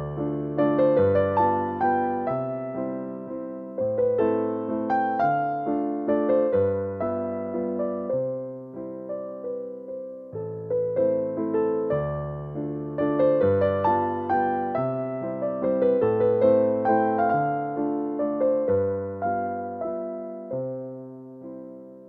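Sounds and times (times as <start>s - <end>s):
slow gentle piano: 0.0s - 22.0s.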